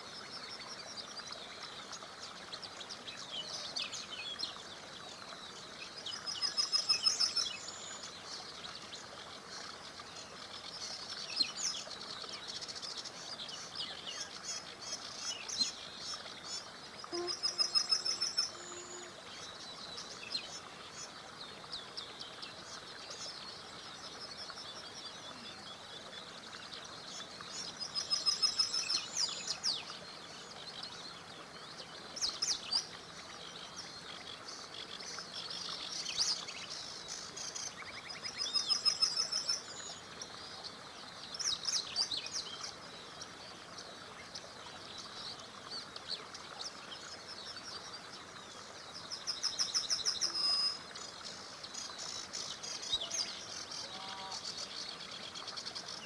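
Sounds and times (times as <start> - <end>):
small river rushing: 0.0 - 56.0
songbirds singing: 0.0 - 56.0.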